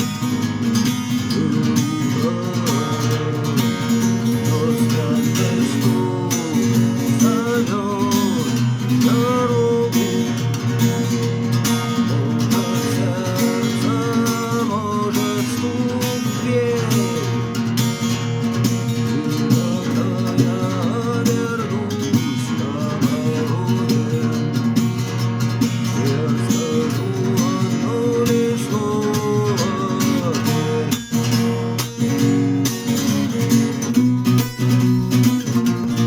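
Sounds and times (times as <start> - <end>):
person singing: 0.0 - 31.9, 33.0 - 36.0
guitar accompaniment: 0.0 - 36.0.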